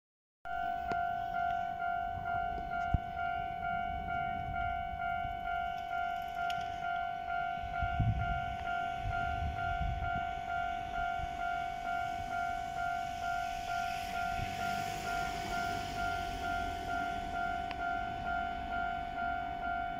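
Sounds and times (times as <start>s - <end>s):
level crossing warning bell ringing: 0.5s - 19.9s.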